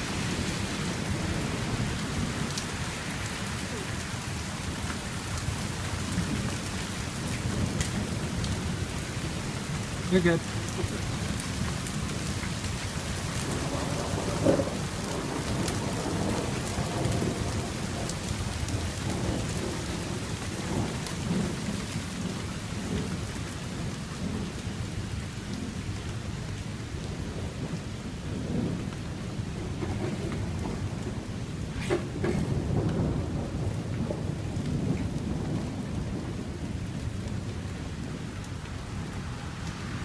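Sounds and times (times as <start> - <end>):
heavy rain falling: 0.0 - 40.0
thunder rumbling: 0.0 - 40.0.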